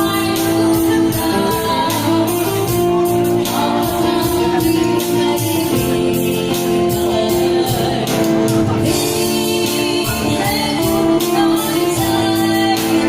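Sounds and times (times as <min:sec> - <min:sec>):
guitar music with beat: 0:00.0 - 0:13.0
person singing: 0:00.0 - 0:13.0.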